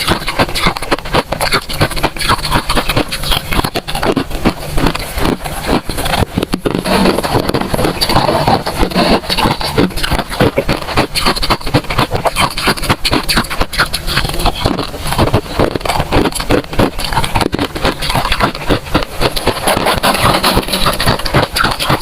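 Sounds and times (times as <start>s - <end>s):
frost being chewed crunching: 0.0s - 22.0s.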